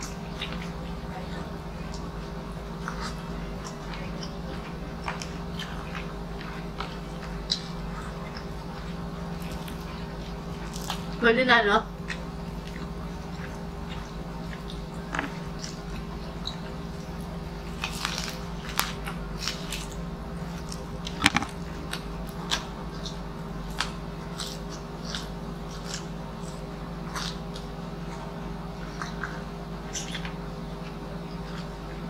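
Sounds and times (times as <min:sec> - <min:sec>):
crispy food being chewed: 0:00.0 - 0:11.2, 0:12.0 - 0:32.0
steady low hum: 0:00.0 - 0:32.0.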